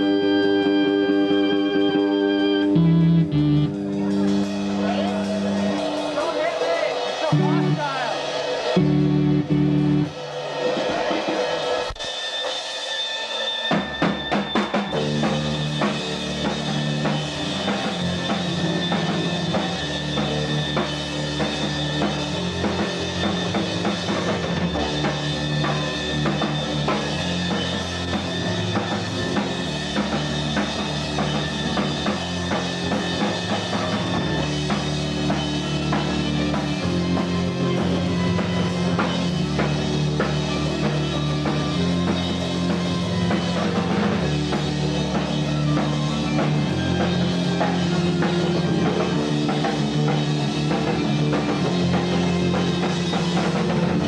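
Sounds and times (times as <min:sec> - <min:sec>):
drum kit: 0:00.0 - 0:54.0
loud rock music: 0:00.0 - 0:54.0.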